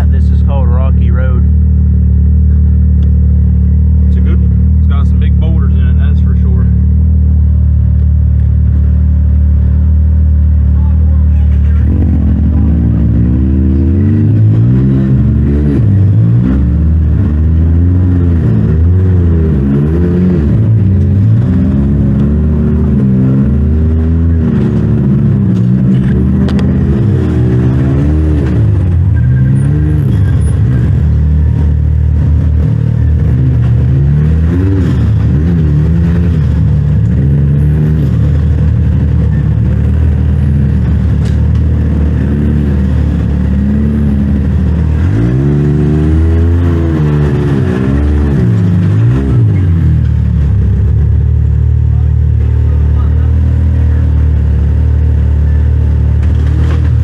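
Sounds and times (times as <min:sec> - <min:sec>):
utility vehicle engine revving: 0:00.0 - 0:57.0.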